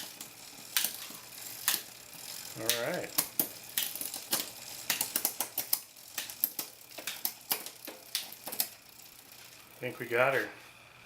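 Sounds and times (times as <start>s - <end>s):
bicycle chain and derailleur clicking: 0.0s - 10.4s.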